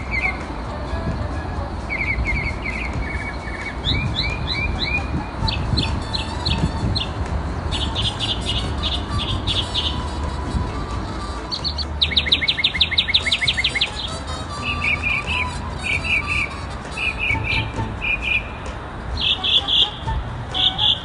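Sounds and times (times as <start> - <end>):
mockingbird singing: 0.0 - 0.5, 1.9 - 10.6, 11.3 - 21.0.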